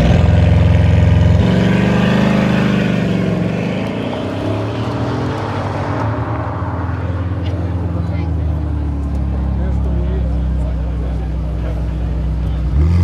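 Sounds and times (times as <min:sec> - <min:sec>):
supercar engine accelerating: 0:00.0 - 0:13.0.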